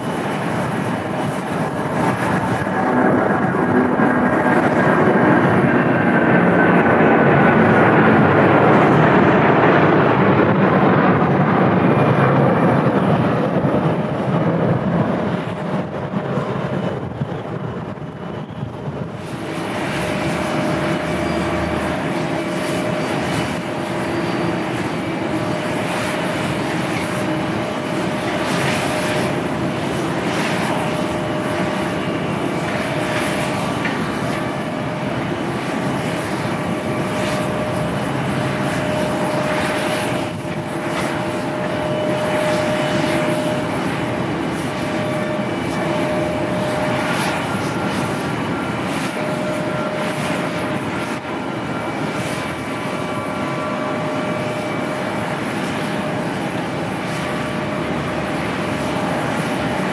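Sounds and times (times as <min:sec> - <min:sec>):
jet airliner landing whine: 0:00.0 - 0:59.9
jet engines at takeoff: 0:00.0 - 0:59.9.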